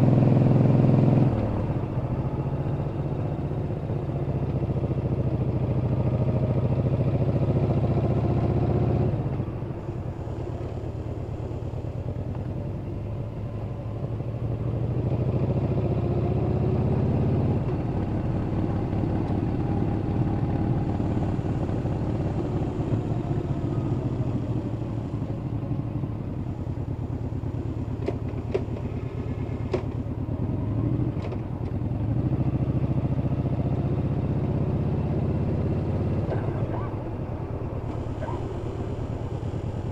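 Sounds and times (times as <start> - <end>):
motorcycle engine with deep exhaust: 0.0 - 39.9.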